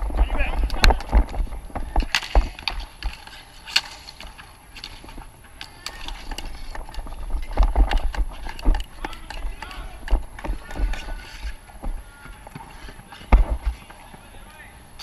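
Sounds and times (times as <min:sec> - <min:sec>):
wind and movement thumps: 0:00.0 - 0:05.5, 0:06.2 - 0:14.4
sticks and ball clacking: 0:00.0 - 0:15.0.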